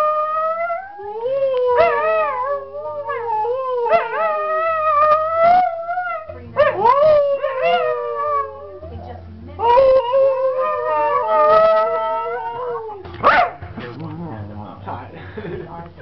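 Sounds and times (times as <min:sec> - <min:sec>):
dog howling: 0:00.0 - 0:13.6.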